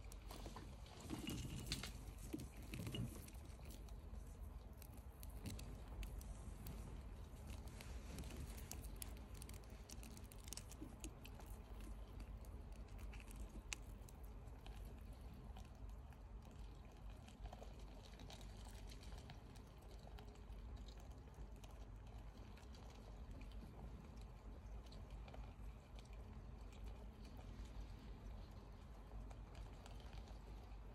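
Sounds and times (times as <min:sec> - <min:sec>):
tarantula chewing prey: 0:00.0 - 0:30.9.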